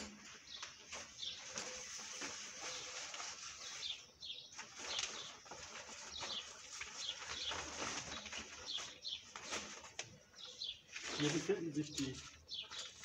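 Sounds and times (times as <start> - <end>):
bird chirps: 0.0 - 13.0
fabric bags rustling and flapping: 0.0 - 13.0.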